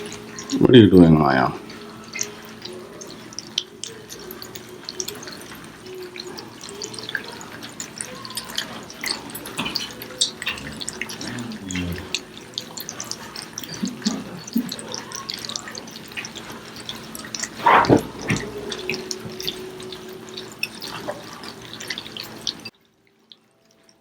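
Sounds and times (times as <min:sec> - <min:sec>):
puppies lapping and chewing food: 0:00.0 - 0:24.0.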